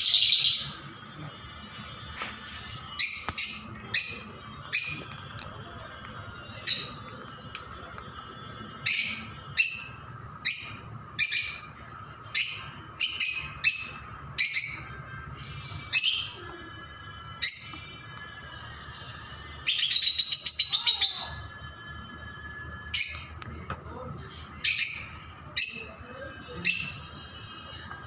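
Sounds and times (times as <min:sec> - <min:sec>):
birds chirping: 0:00.0 - 0:16.5, 0:19.6 - 0:21.6, 0:22.9 - 0:23.7, 0:24.5 - 0:27.9.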